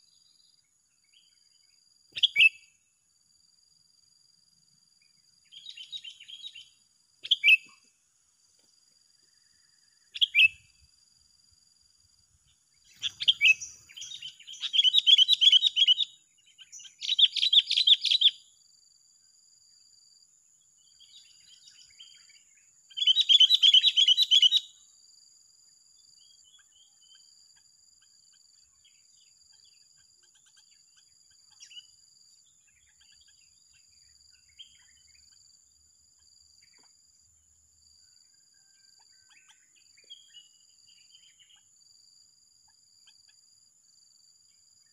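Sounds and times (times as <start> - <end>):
faint bird chirps: 0.0 - 44.9.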